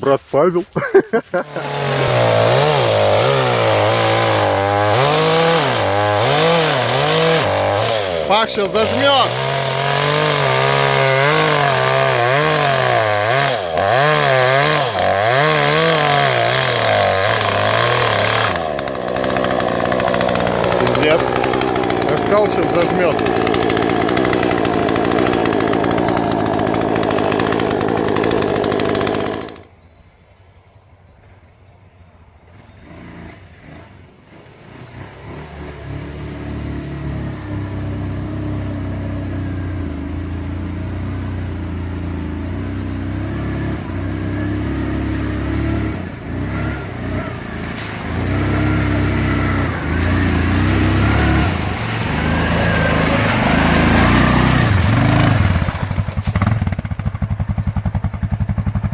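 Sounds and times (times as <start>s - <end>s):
chainsaw running: 0.0s - 29.8s, 37.1s - 58.9s
quad bike engine revving: 0.8s - 29.7s, 32.5s - 58.9s.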